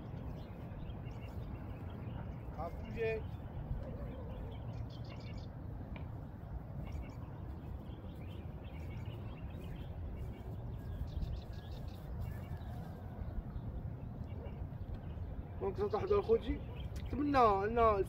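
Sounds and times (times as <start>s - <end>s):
birds chirping: 0.0s - 18.0s
low outdoor rumble: 0.0s - 18.0s.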